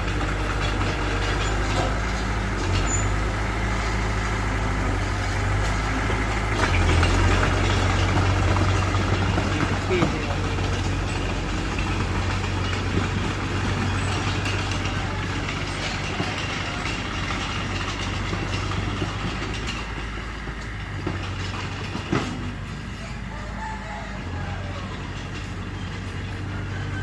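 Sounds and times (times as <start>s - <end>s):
bulldozer diesel engine running: 0.0s - 27.0s
tracks clattering: 0.0s - 27.0s.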